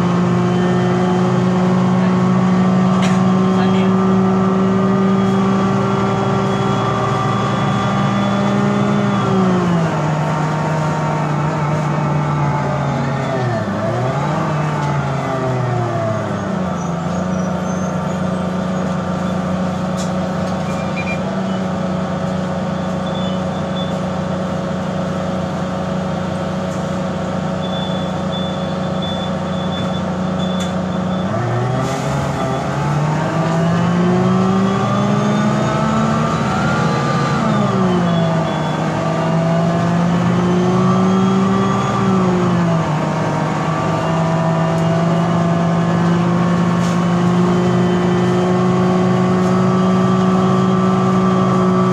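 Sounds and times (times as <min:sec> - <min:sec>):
bus diesel engine: 0:00.0 - 0:51.9.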